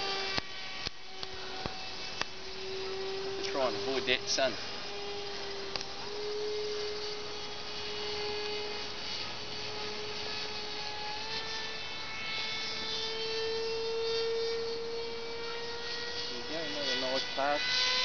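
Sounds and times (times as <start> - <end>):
model airplane engine droning: 0.0 - 18.0.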